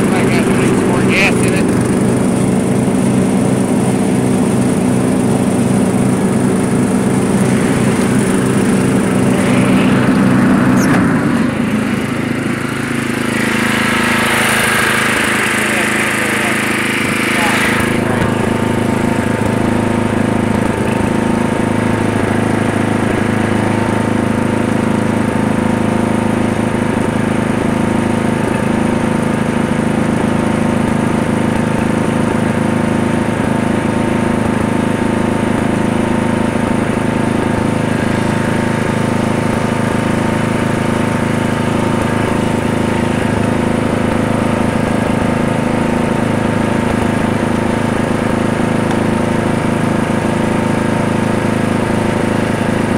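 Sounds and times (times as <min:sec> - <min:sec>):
lawn mower engine running: 0:00.0 - 0:52.9.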